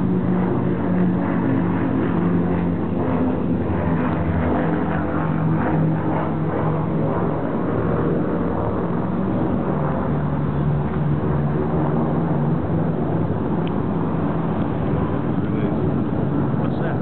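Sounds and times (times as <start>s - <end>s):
propeller aircraft engines humming: 0.0s - 17.0s.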